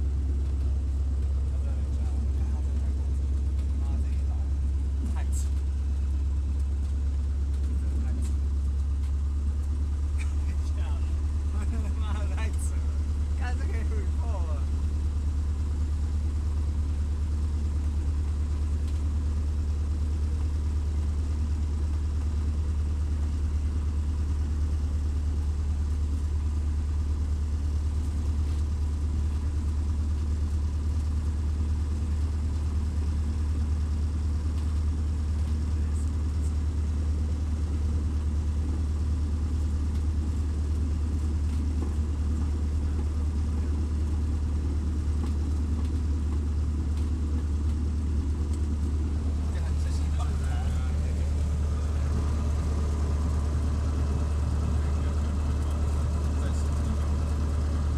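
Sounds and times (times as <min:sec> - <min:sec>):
small plane engine and propeller: 0:00.0 - 0:57.9.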